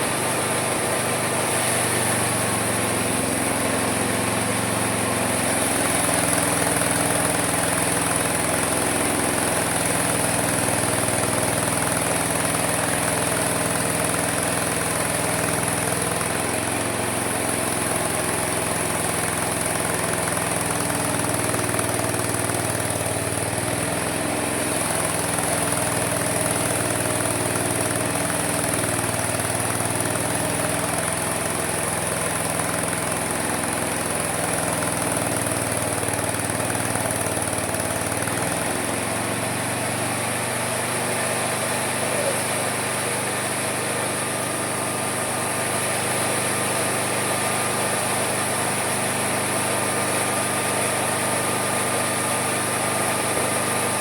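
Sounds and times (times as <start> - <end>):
sawmill running: 0.0 - 54.0.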